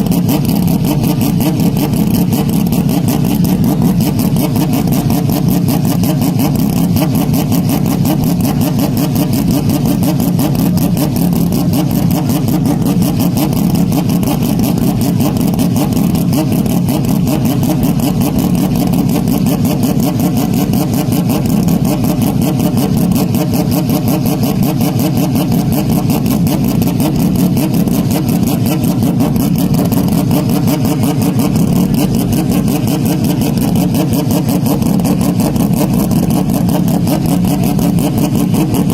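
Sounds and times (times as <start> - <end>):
distorted engine noise: 0.0 - 38.9.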